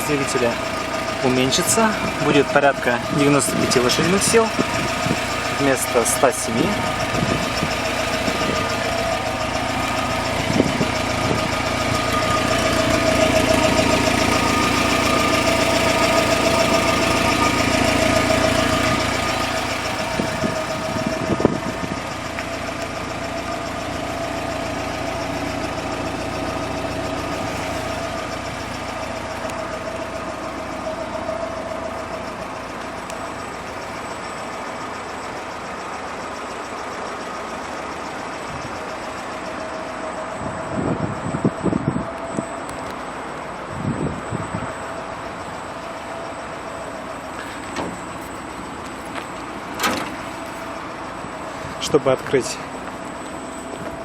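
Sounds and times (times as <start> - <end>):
engine knocks: 0.0 - 54.0
petrol engine idling: 0.0 - 54.0.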